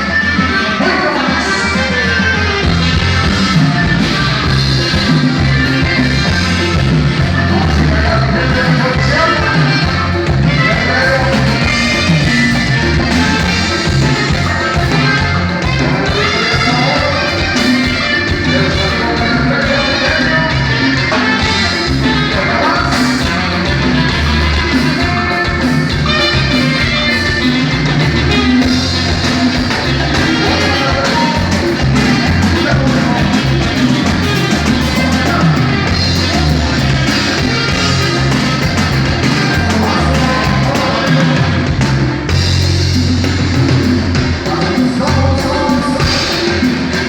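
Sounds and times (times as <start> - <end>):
band music with singing: 0.0 - 47.0.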